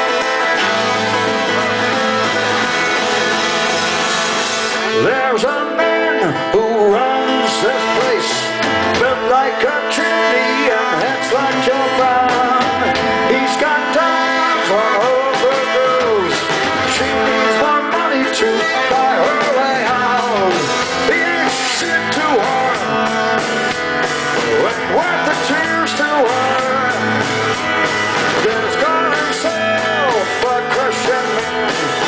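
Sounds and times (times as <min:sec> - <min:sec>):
live rock band playing: 0:00.0 - 0:32.0
man singing: 0:04.7 - 0:23.7, 0:24.3 - 0:32.0.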